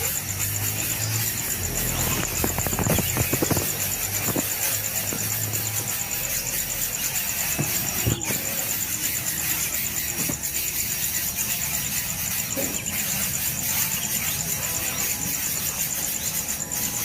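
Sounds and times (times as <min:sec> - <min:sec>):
nestlings squealing: 0:00.0 - 0:17.0.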